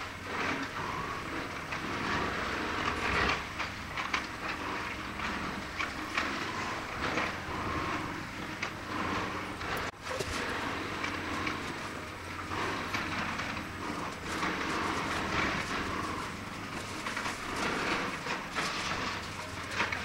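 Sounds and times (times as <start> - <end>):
steady machine noise: 0.0 - 20.0.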